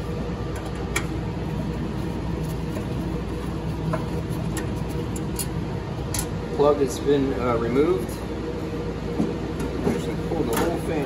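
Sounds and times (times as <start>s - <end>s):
equipment cooling hum: 0.0s - 11.0s.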